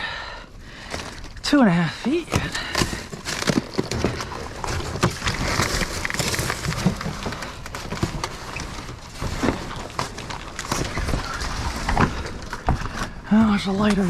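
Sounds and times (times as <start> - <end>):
knocks clunks and scraping of debris: 0.7 - 14.0
rustling background: 0.7 - 14.0.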